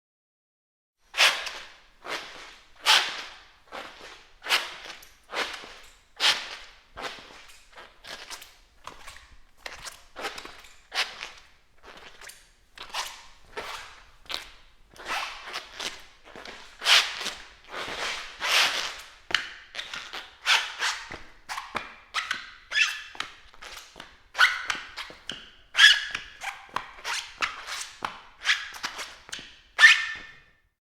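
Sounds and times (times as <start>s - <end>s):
squeaky footsteps on floor: 1.1s - 30.6s.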